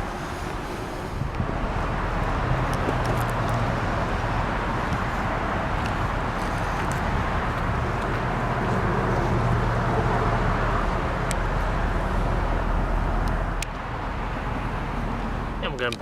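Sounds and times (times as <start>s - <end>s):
car engine idling: 0.0s - 15.8s
traffic noise: 0.0s - 16.0s.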